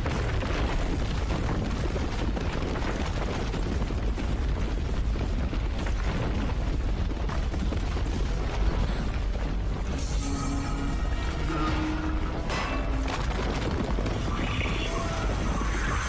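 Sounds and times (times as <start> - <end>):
deep rumble: 0.0 - 16.0
dense crackling: 0.0 - 16.0.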